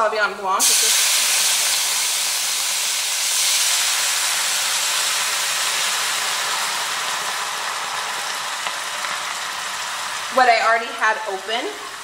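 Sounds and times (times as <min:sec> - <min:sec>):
wine sizzling in hot pan: 0:00.6 - 0:12.0.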